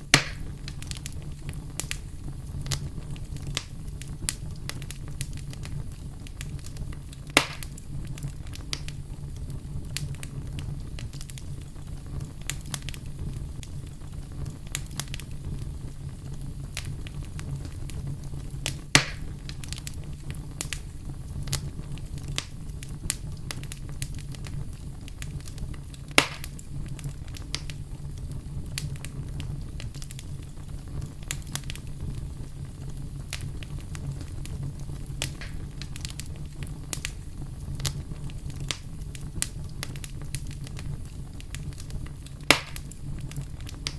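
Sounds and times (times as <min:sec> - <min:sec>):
loud fire pops: 0:00.0 - 0:43.9
wood fire crackling: 0:00.0 - 0:43.9.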